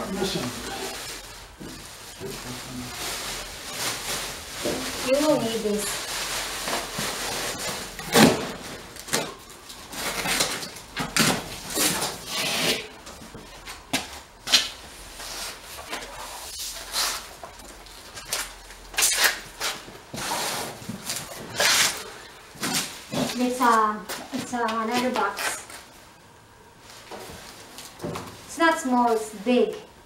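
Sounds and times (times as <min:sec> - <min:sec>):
plastic wrap rustling: 0:00.0 - 0:26.1.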